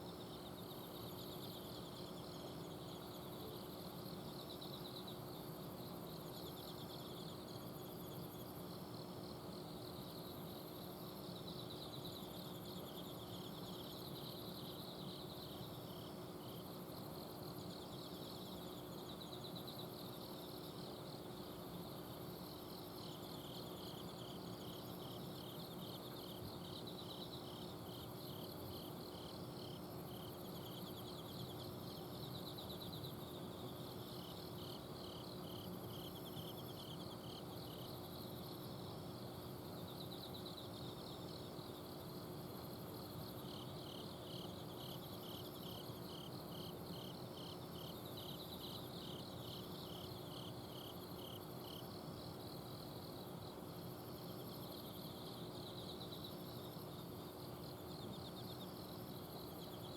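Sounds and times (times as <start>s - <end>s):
crickets chirping: 0.0s - 59.9s
crickets trilling: 0.0s - 59.9s.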